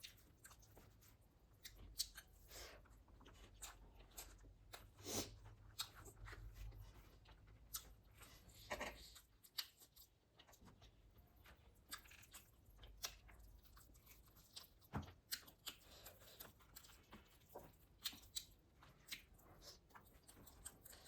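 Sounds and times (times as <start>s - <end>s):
person chewing and crunching food: 0.0s - 21.0s.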